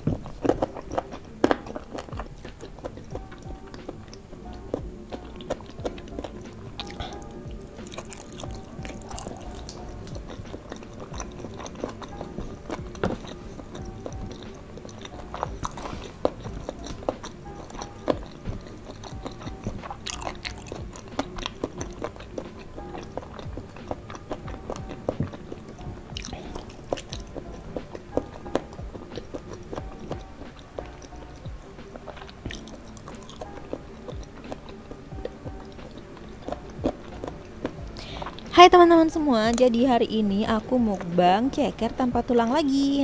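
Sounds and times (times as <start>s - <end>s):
close-up chewing and mouth sounds: 0.0s - 43.0s
soft background music: 0.0s - 43.0s.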